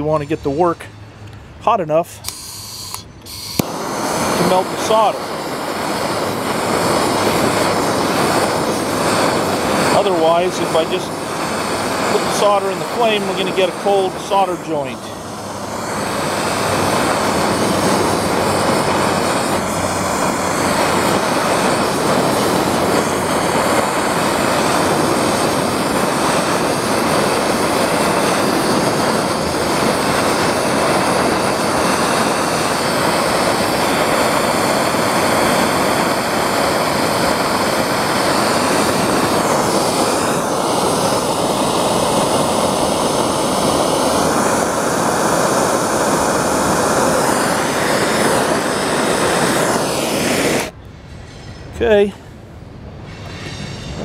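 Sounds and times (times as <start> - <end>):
gas torch flame rushing: 2.1 - 52.1, 52.7 - 54.0.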